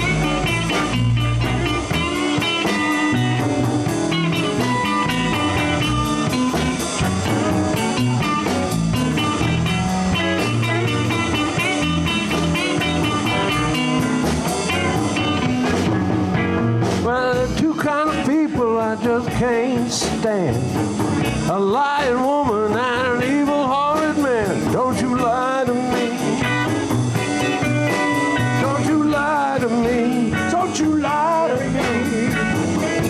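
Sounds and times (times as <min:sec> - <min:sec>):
electric guitar lead runs: 0:00.0 - 0:17.0, 0:23.1 - 0:33.0
bass guitar: 0:00.0 - 0:33.0
drum kit steady beat: 0:00.0 - 0:33.0.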